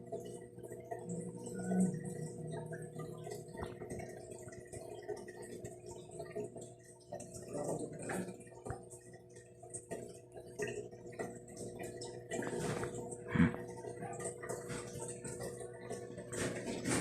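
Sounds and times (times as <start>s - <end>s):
aquarium equipment humming: 0.0s - 17.0s
small drips and ticks: 0.0s - 17.0s
water trickling: 0.0s - 17.0s.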